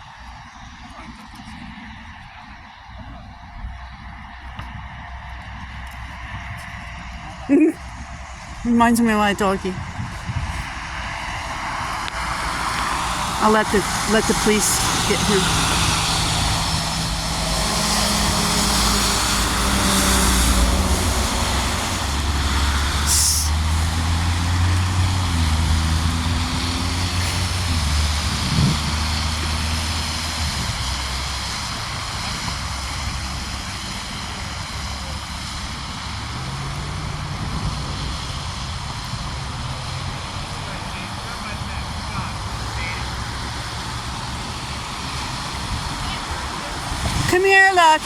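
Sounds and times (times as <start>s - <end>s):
tyre and road noise: 0.0s - 48.0s
vehicle engines passing: 0.0s - 48.0s.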